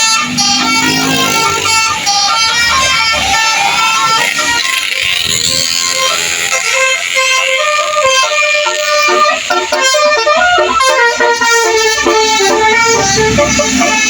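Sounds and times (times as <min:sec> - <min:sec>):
multi-tone melody horn tune: 0:00.0 - 0:14.0.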